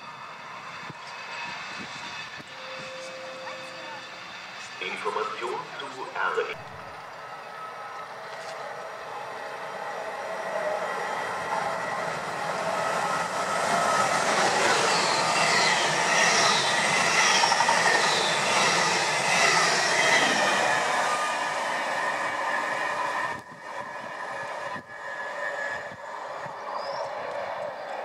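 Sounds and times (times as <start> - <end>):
high-speed train passing: 0.0 - 28.0.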